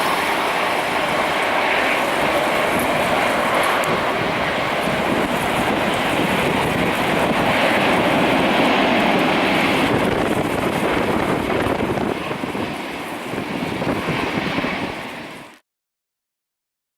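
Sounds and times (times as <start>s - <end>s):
jet engines of landing airliner: 0.0s - 15.6s.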